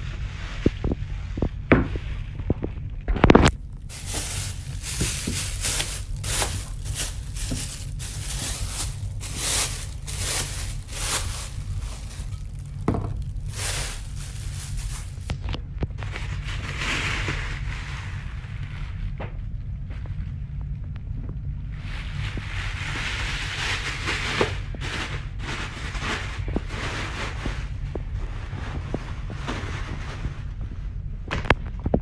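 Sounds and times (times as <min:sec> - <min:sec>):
plastic bag rustling and crinkling: 0:00.0 - 0:20.5, 0:21.6 - 0:32.0
low rumble: 0:00.0 - 0:32.0.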